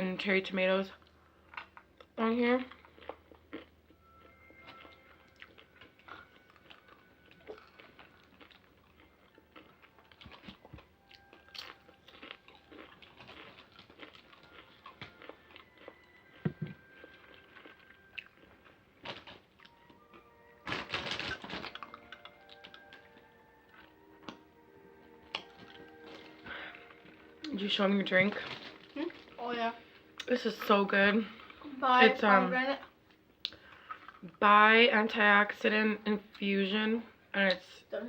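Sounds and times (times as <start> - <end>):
crunching and chewing tacos: 1.0 - 31.7, 32.8 - 34.3.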